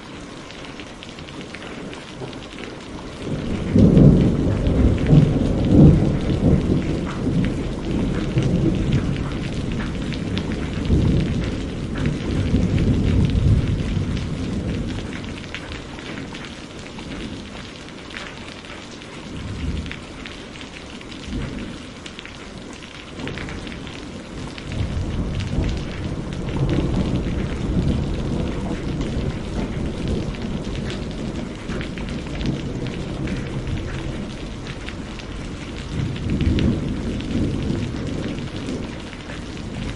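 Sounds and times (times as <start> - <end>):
heavy rain pouring: 0.0 - 39.9
thunder rumbling: 1.3 - 16.4, 21.2 - 22.3, 23.1 - 39.9.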